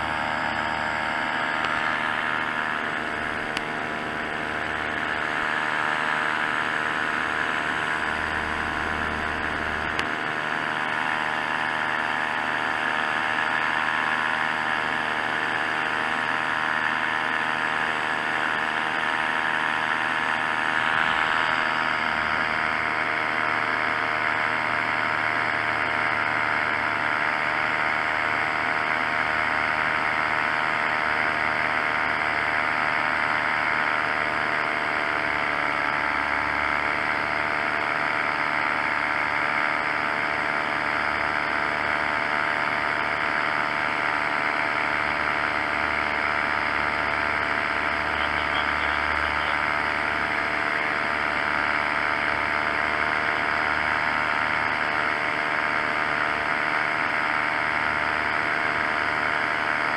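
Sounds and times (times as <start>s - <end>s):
paramotor engine buzzing: 0.0s - 59.9s.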